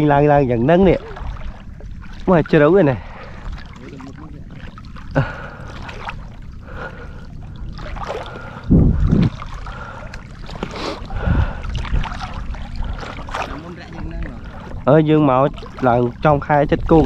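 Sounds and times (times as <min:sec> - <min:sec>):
water sloshing and gurgling: 0:00.0 - 0:17.0.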